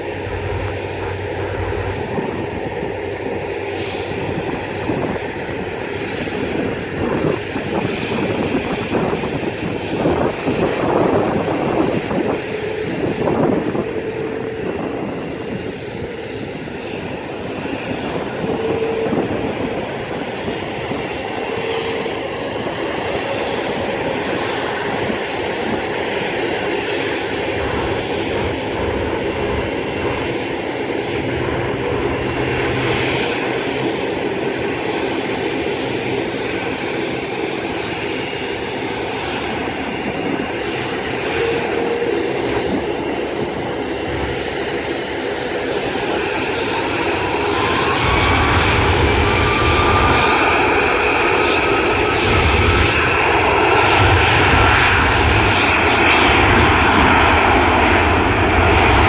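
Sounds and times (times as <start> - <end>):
jet engines whining roar: 0.0 - 59.0.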